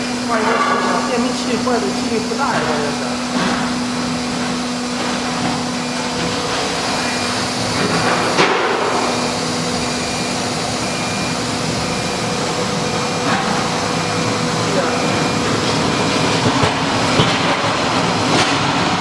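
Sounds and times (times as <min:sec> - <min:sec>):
cnc router whirring and humming: 0:00.0 - 0:19.0.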